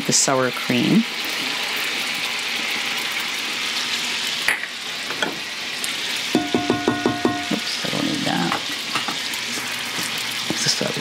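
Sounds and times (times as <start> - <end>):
gravy sizzling in a skillet: 0.0 - 11.0.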